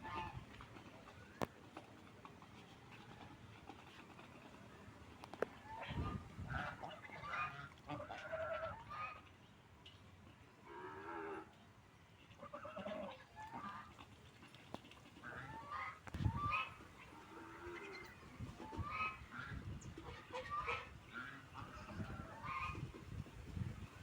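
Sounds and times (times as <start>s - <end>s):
ducks quacking: 0.0s - 9.5s, 10.3s - 23.8s.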